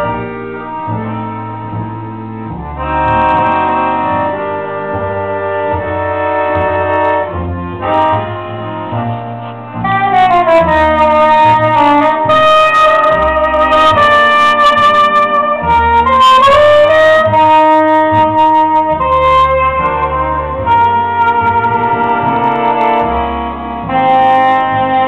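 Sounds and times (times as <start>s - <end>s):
accordion chords: 0.0s - 25.0s
double bass line: 0.0s - 25.0s
soprano saxophone melody: 2.6s - 25.0s.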